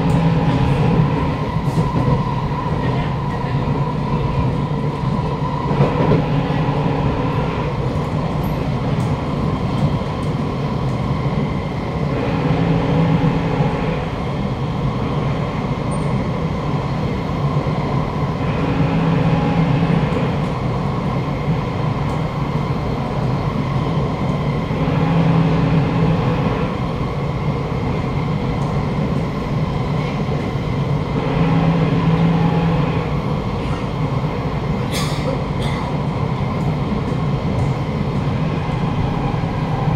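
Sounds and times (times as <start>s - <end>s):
metro car wheel and running noise: 0.0s - 39.9s.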